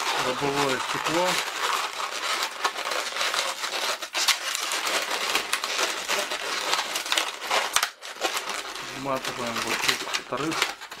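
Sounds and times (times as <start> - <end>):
balloons rubbing and creaking: 0.0 - 11.0.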